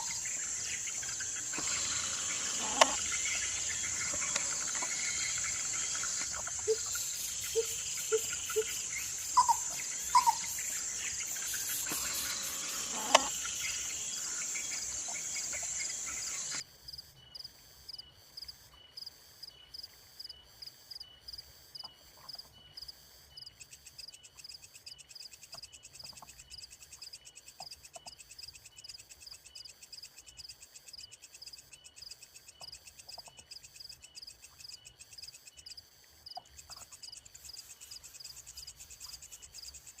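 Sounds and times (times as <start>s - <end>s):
insects trilling: 0.0s - 17.5s, 22.8s - 40.0s
cricket chirping: 0.0s - 40.0s.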